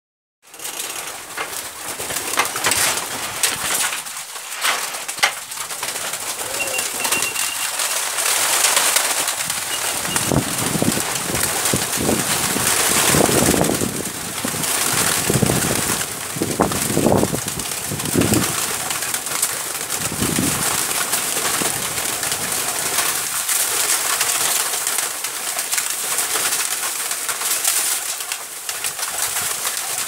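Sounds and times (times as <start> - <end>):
pigeon wings flapping: 0.6 - 30.0.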